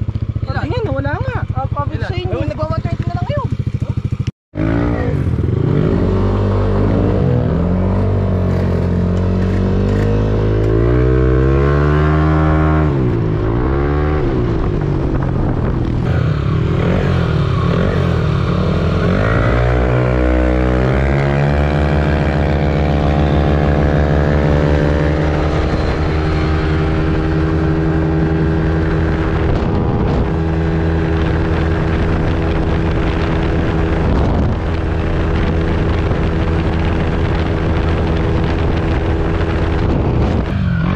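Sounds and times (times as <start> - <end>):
scooter engine revving: 0.0 - 40.9.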